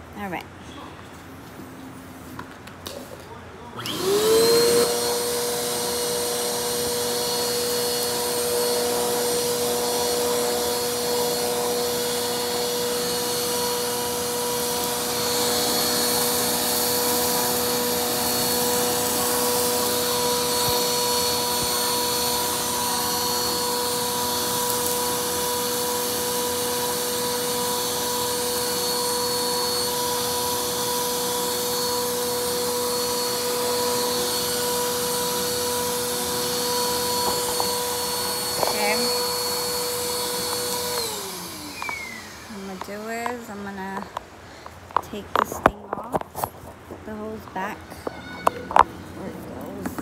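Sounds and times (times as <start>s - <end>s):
vacuum cleaner whining: 0.0s - 50.0s.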